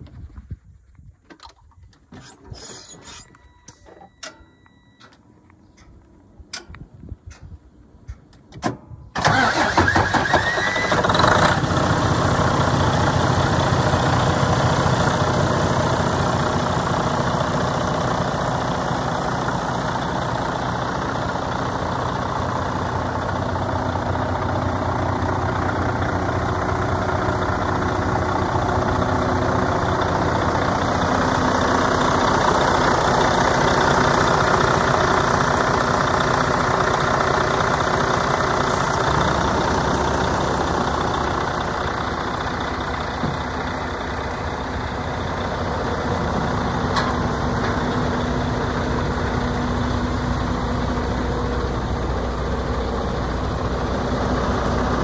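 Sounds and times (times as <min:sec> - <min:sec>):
diesel truck engine starting and idling: 0:08.3 - 0:55.0.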